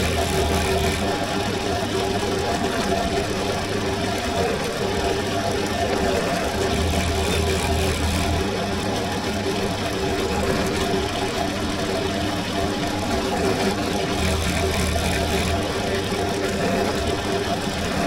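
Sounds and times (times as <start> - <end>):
drill press motor humming: 0.0 - 18.0.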